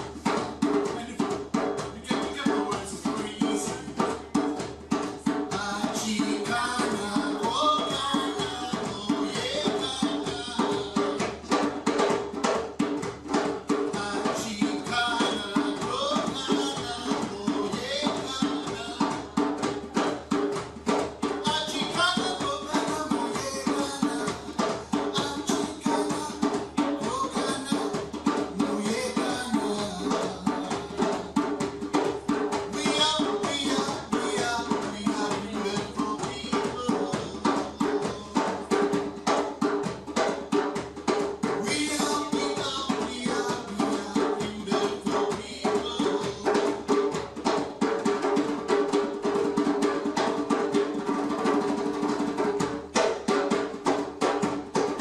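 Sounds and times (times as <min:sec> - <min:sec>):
hand drums playing fast rhythm: 0:00.0 - 0:55.0.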